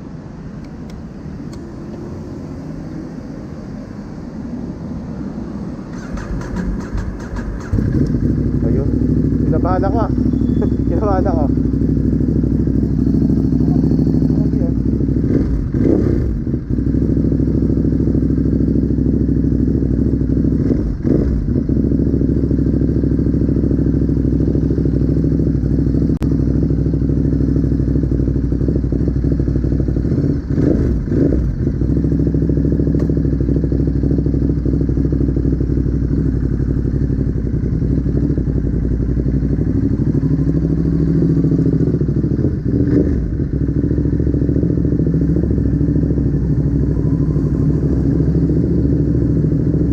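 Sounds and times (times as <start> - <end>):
engine knocks and clatters: 5.8 - 49.9
motorcycle engine running: 5.9 - 49.9.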